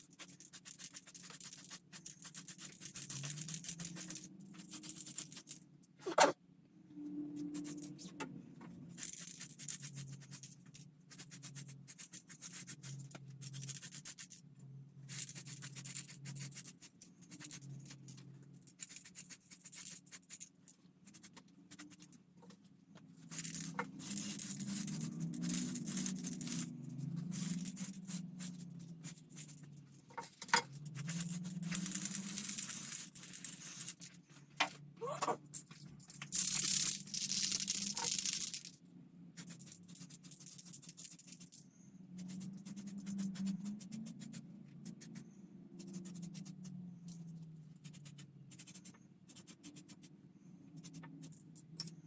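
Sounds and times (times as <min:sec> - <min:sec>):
rubbing and scratching plastic: 0:00.0 - 0:06.4, 0:07.4 - 0:52.0.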